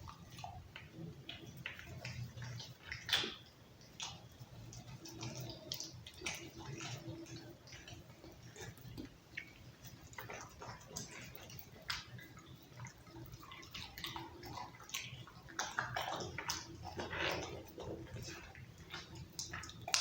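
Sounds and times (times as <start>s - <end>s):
dog chewing meat: 0.0s - 20.0s.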